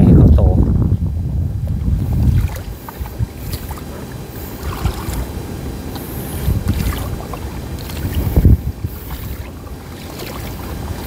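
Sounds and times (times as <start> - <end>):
wind buffeting microphone: 0.0 - 11.0
seawater sloshing and splashing: 1.7 - 11.0.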